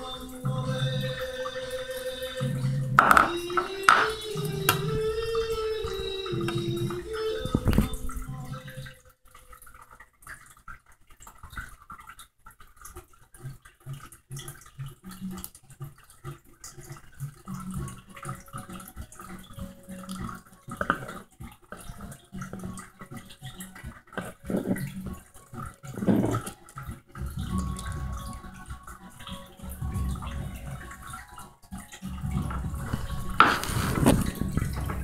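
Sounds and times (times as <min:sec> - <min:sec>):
lizard eating wet clicks: 0:00.0 - 0:35.0.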